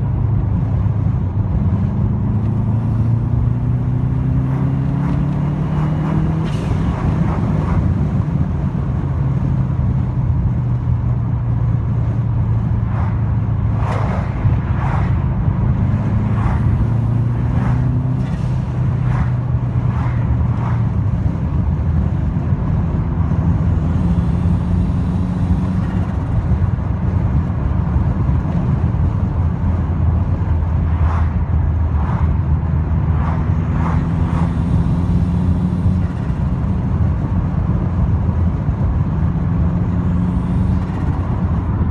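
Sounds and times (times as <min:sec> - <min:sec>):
car engine revving: 0:00.5 - 0:41.9.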